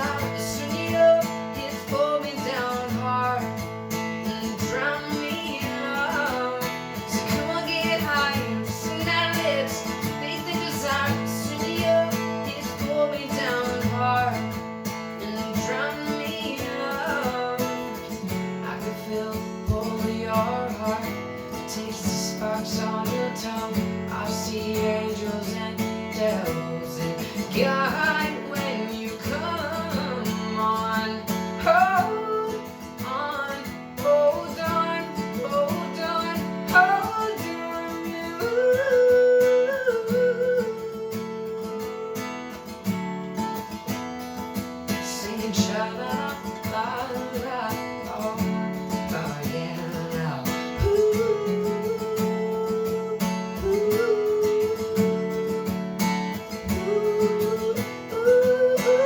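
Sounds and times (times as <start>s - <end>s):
person singing wordlessly: 0.0s - 42.7s, 44.9s - 59.0s
acoustic guitar strumming: 0.0s - 59.0s.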